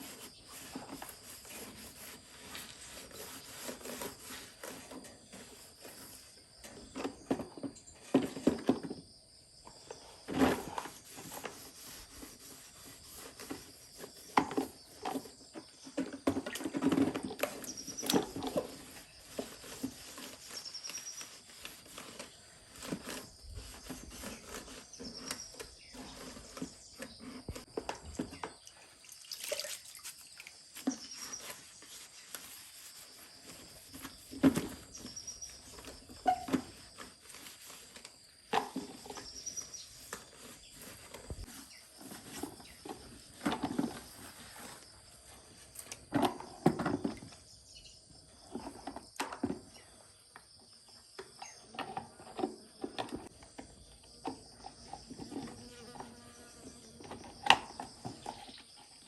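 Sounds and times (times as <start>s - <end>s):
objects being handled: 0.0s - 47.6s
insects chirring: 0.0s - 59.0s.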